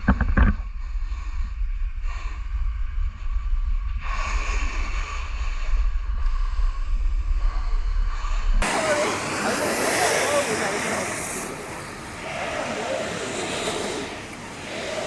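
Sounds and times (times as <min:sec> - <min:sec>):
hiss: 0:00.8 - 0:15.0.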